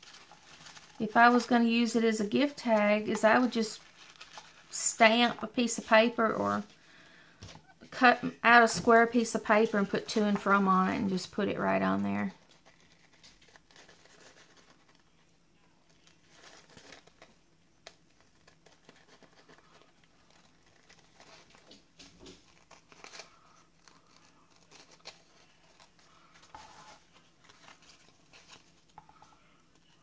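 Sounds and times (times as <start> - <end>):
tissue paper crinkling: 0.0 - 7.3, 11.7 - 30.0.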